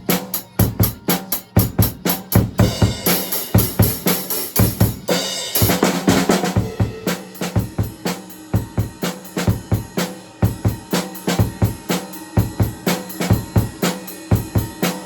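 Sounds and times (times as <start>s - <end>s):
drum kit rock beat: 0.0s - 15.0s
cymbal crashes: 2.6s - 15.0s.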